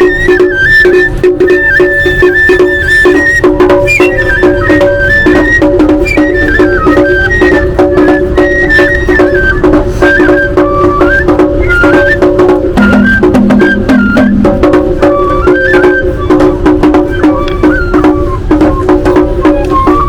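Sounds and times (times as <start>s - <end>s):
drum beats: 0.0s - 20.0s
high piping melody over drone: 0.0s - 20.0s.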